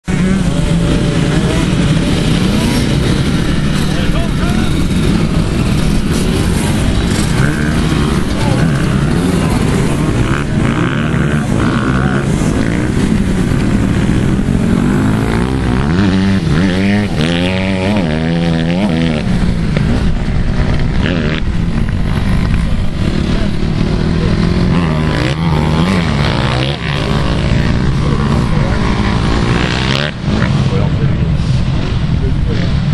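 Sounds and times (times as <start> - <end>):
dirt bikes revving past: 0.1 - 32.9.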